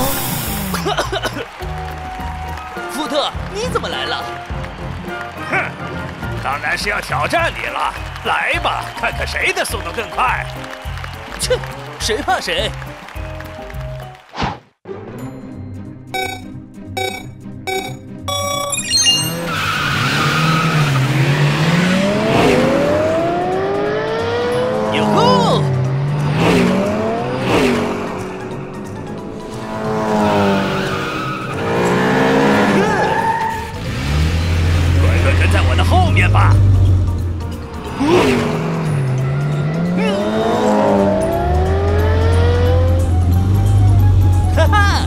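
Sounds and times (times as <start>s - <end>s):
race car engines accelerating: 0.0s - 14.0s, 19.3s - 45.0s.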